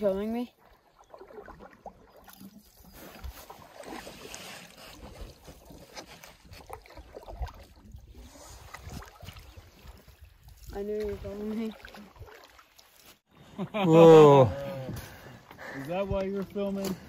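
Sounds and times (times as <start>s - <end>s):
paddle swishes and drips: 0.0s - 13.3s, 14.8s - 17.0s.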